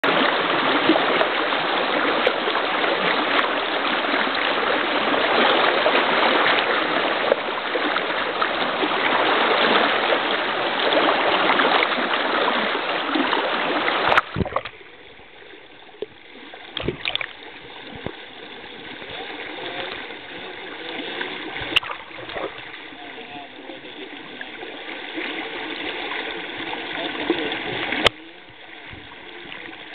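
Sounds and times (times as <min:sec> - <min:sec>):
stream rushing over riffle: 0:00.0 - 0:29.9.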